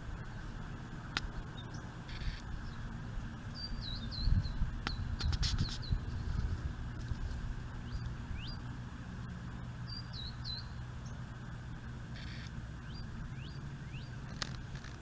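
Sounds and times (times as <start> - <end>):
small birds chirping: 0.2 - 8.8, 9.7 - 15.0.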